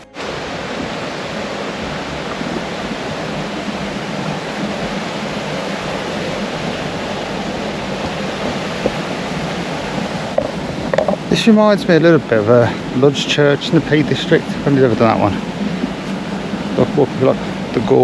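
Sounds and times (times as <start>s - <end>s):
water rushing in a stream: 0.0s - 18.0s.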